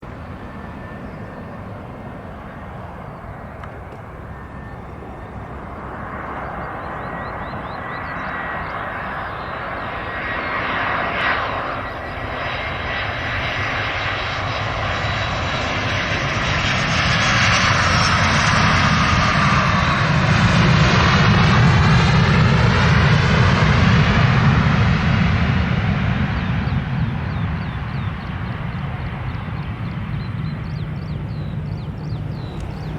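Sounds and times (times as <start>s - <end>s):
jet engines rushing: 0.0s - 32.9s.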